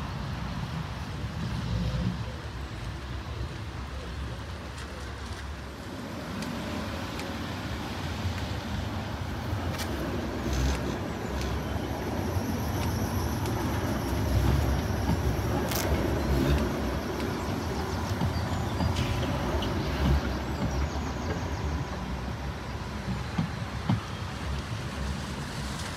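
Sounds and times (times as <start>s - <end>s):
tram rumbling: 0.0s - 25.9s.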